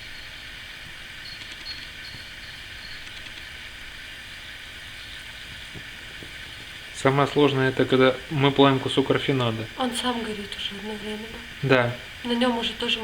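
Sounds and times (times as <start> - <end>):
gas burner flame hissing: 0.0 - 13.0.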